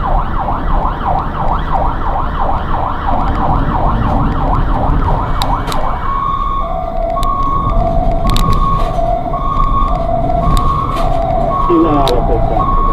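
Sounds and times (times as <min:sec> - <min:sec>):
ambulance siren: 0:00.0 - 0:12.9.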